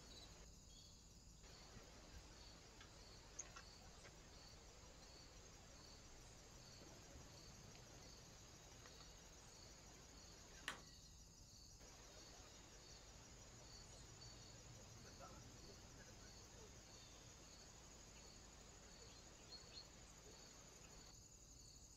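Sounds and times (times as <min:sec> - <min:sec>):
faint steady hiss: 0:00.0 - 0:21.9.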